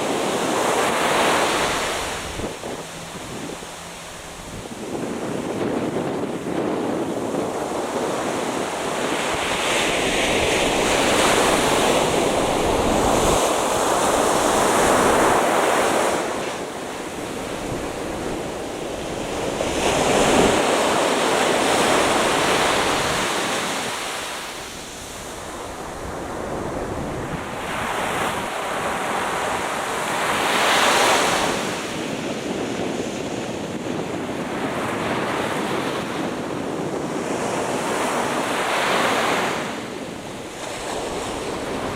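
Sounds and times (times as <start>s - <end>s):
ocean surf breaking on beach: 0.0s - 41.9s
wind buffeting microphone: 0.0s - 41.9s.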